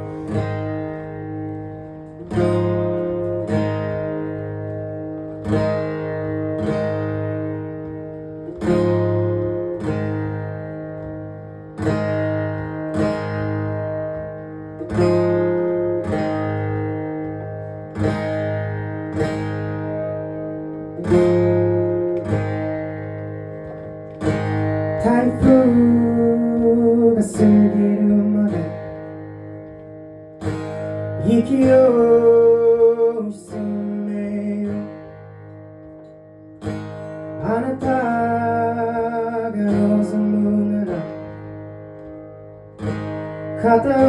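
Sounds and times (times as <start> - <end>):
acoustic guitar strumming chords: 0.0 - 44.0.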